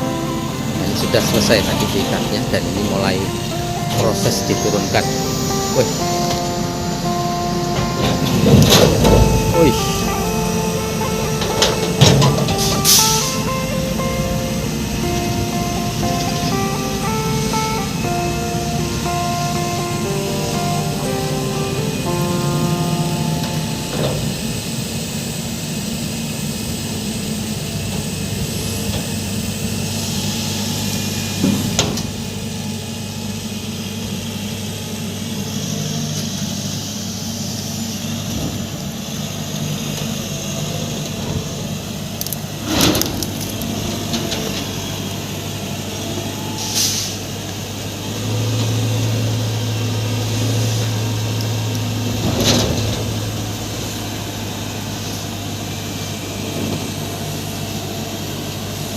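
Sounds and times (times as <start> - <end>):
heavy vehicle engine running: 0.0 - 58.9.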